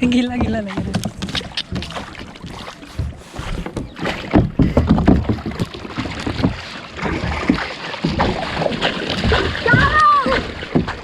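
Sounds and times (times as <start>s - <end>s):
kayak paddle splashing water: 0.0s - 11.0s.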